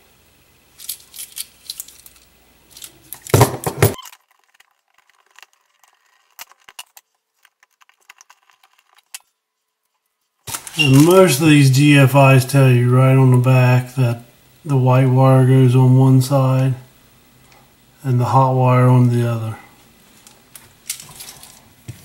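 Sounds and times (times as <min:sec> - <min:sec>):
background hiss: 0:00.0 - 0:04.1, 0:04.8 - 0:22.0.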